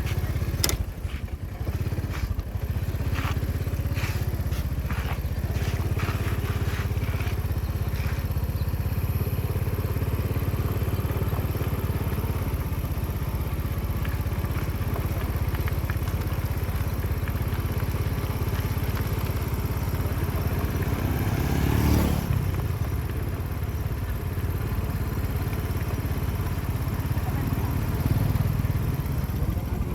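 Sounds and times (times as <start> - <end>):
engine droning: 0.0 - 29.9.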